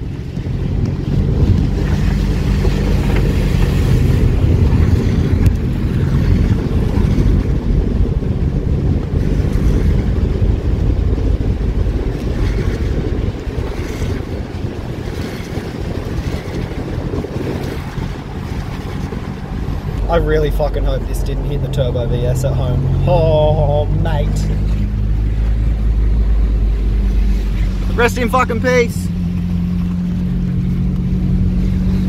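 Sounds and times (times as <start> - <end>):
car rumbling through slushy hail: 0.0 - 32.0.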